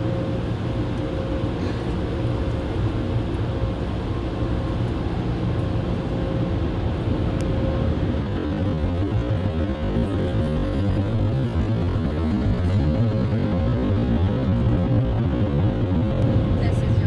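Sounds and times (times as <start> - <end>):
car wash machinery rumbling: 0.0 - 17.0.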